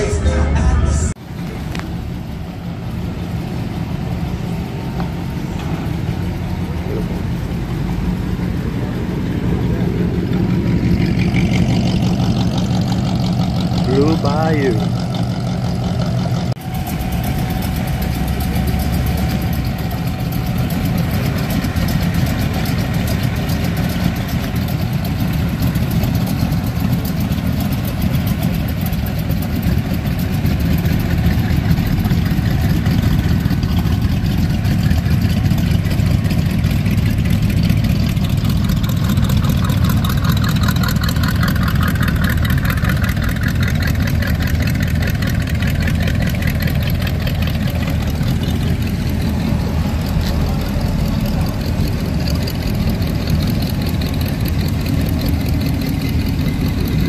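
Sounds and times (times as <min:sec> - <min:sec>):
car engines low exhaust rumble: 0:01.1 - 0:57.0.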